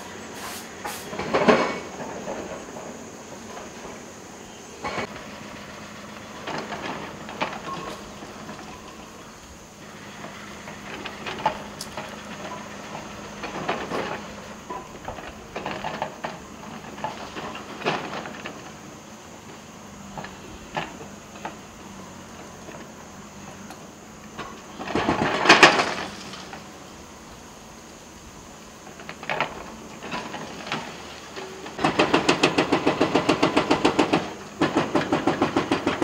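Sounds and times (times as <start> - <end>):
excavator engine hum: 0.0 - 36.0.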